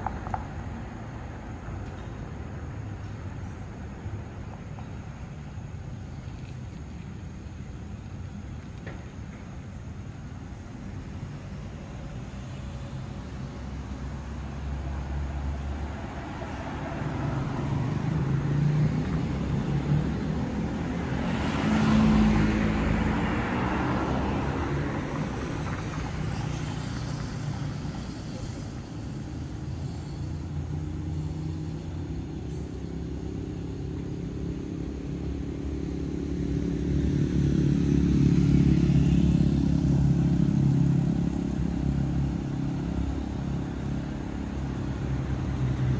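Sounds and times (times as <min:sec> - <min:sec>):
cars driving past: 0:00.0 - 0:45.9
motorcycle engines: 0:00.0 - 0:45.9.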